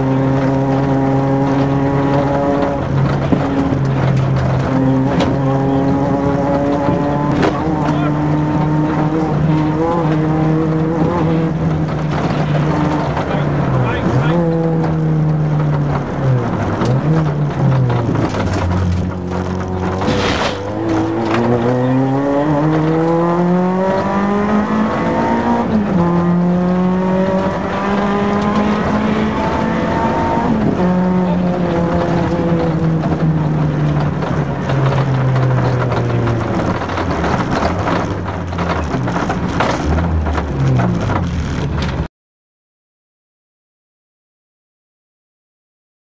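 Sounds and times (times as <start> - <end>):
car engine revving: 0.0 - 42.1
car knocks and rattles: 0.0 - 42.1.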